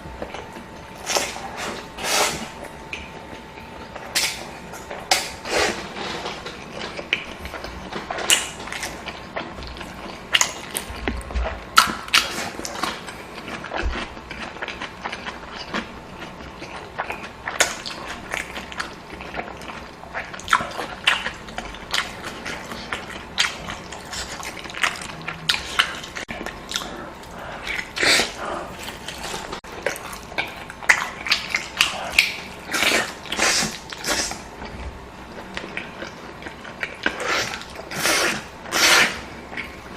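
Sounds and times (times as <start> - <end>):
person chewing and smacking: 2.8 - 39.9.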